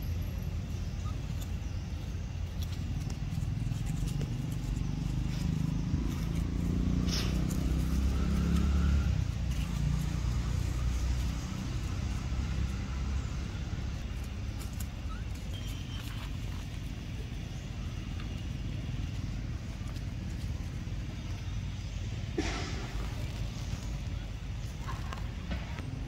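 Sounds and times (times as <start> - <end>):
vehicle engine rumble passing: 0.0 - 26.0.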